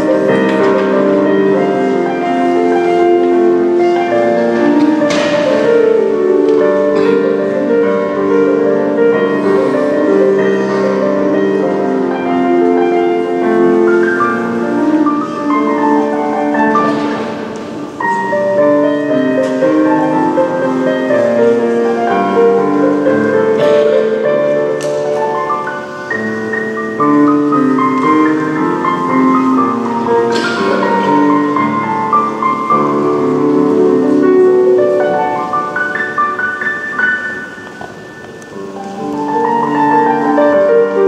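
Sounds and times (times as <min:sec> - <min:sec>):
digital piano playing a waltz: 0:00.0 - 0:41.0.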